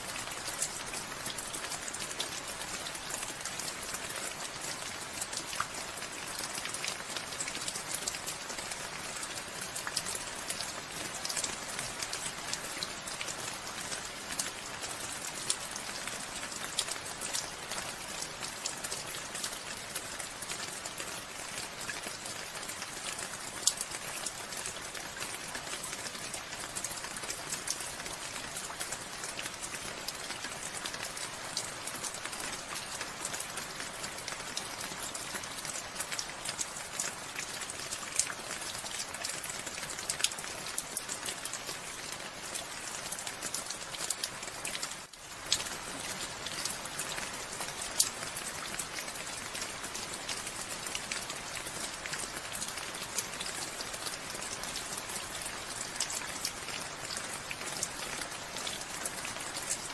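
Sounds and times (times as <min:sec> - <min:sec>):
raindrops ticking on a surface: 0:00.0 - 0:59.9
steady rainfall: 0:00.0 - 0:59.9.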